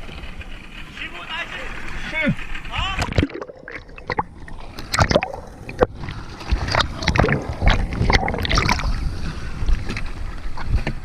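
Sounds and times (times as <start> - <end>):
sea water splashing: 0.0 - 11.0.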